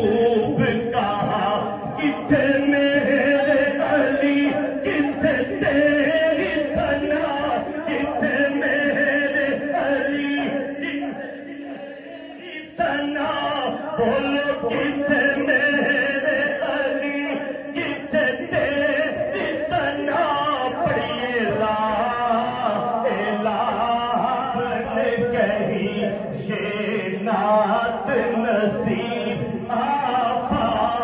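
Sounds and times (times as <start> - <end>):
man chanting: 0.0 - 31.0.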